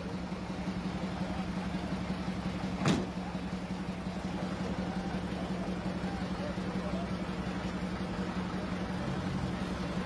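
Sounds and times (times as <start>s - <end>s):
vehicle engines humming: 0.0s - 10.0s.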